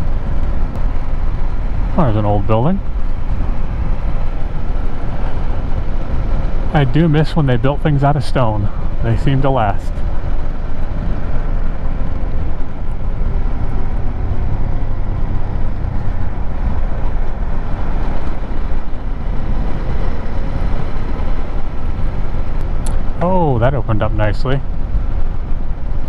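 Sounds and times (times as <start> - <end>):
tyres on gravel road: 0.0 - 26.0
wind noise: 0.0 - 26.0.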